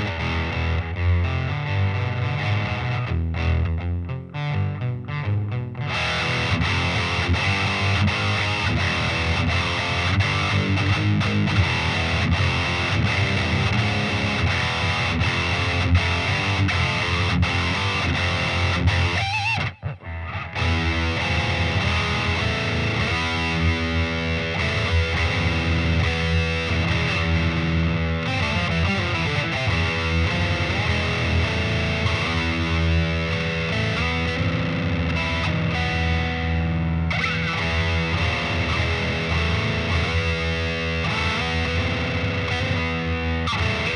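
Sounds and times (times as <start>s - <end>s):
distorted electric guitar: 0.0s - 43.9s.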